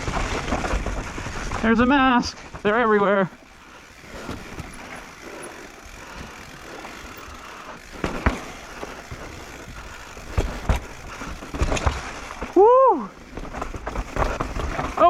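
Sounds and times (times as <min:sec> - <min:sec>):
bike rattling over bumps: 0:00.0 - 0:15.0
bike tyres rushing on dirt: 0:00.0 - 0:15.0.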